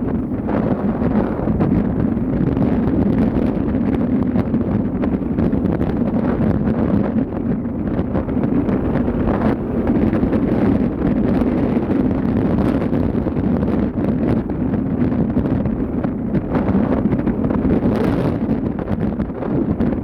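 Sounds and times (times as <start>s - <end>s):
low drone of ship: 0.0s - 20.0s
wind buffeting microphone: 0.0s - 20.0s.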